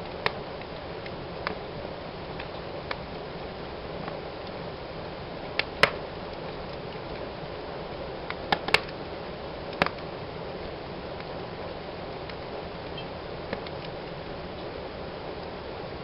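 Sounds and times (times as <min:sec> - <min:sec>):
fire crackles and pops: 0:00.0 - 0:16.0
wood fire hissing: 0:00.0 - 0:16.0.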